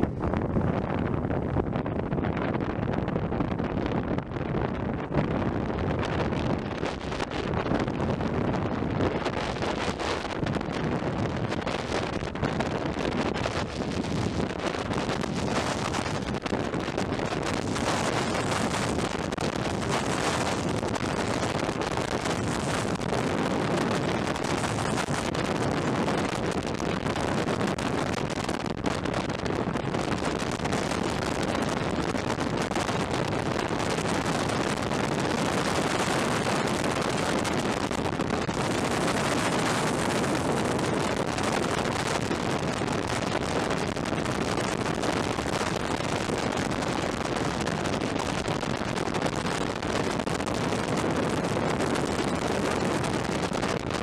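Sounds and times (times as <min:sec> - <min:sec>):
longboard wheels rolling on asphalt: 0:00.0 - 0:54.0
wind buffeting microphone: 0:00.0 - 0:54.0.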